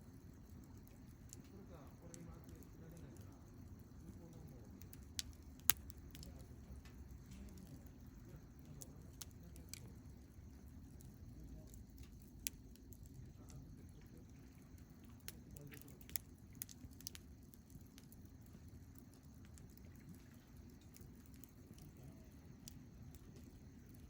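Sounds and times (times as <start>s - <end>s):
campfire crackling and popping: 0.0s - 24.0s
low steady rumble: 0.0s - 24.0s.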